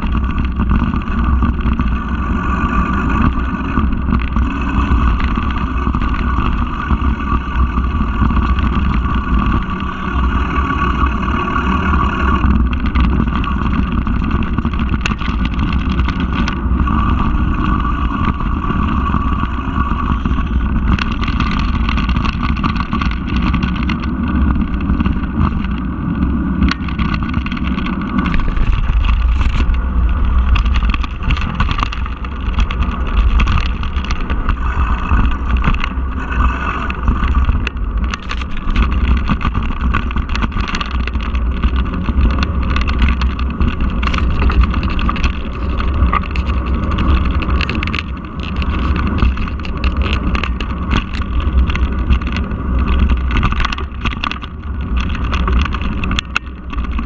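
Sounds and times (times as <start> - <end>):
bicycle rattling and knocking: 0.0 - 57.0
wind buffeting microphone: 0.0 - 57.0.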